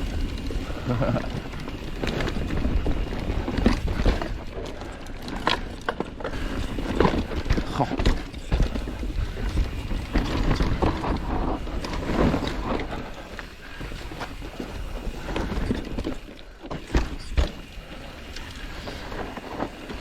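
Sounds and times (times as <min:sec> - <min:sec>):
bike knocking and rattling: 0:00.0 - 0:20.0
bike tyres rolling over dirt and rock: 0:00.0 - 0:20.0.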